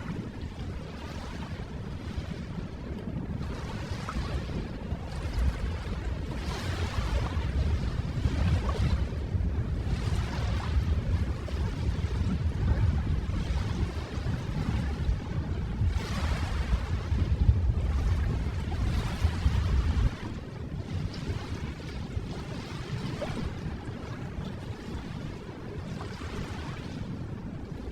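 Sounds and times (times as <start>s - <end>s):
ocean waves breaking on shore: 0.0s - 27.9s.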